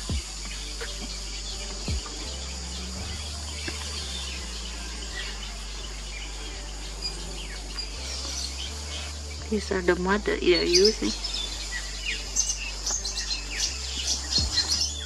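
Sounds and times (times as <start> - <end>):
high insect-like hiss: 0.0 - 15.0
low rumble: 0.0 - 15.0
small birds chirping: 0.0 - 15.0.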